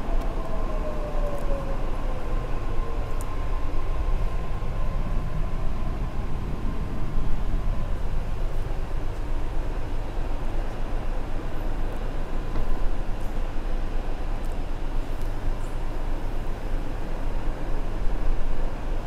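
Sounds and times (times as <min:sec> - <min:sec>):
metro train rumble: 0:00.0 - 0:19.0.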